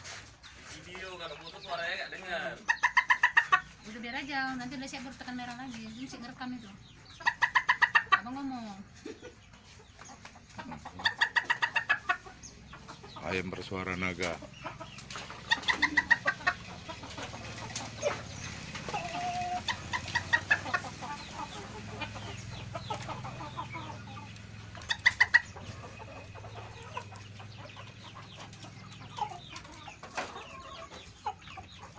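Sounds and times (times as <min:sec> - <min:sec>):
hen clucking: 0:00.0 - 0:31.9.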